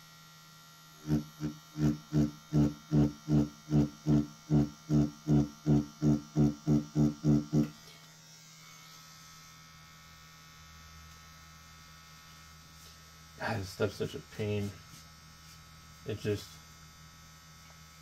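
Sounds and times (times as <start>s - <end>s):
faint steady hum: 0.0s - 18.0s
tattoo machine buzzing: 0.0s - 18.0s.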